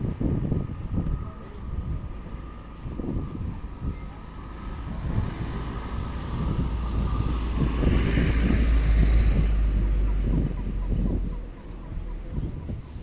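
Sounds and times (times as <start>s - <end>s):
outdoor noise: 0.0s - 13.0s
wind buffeting microphone: 0.0s - 13.0s.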